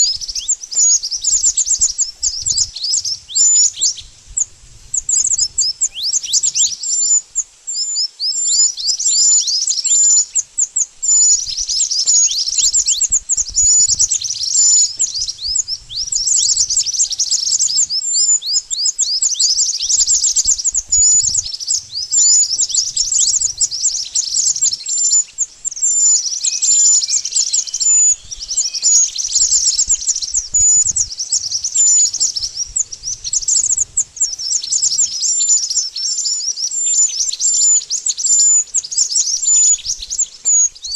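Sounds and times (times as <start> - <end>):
bird high chirps: 0.0 - 40.9.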